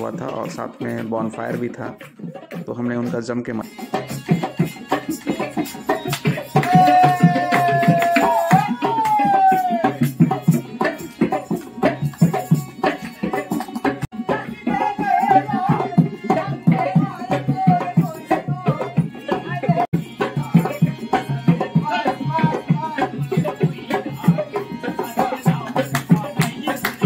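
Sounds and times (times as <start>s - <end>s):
drum beaten in quick rhythm: 0.0s - 27.0s
person singing: 0.0s - 27.0s.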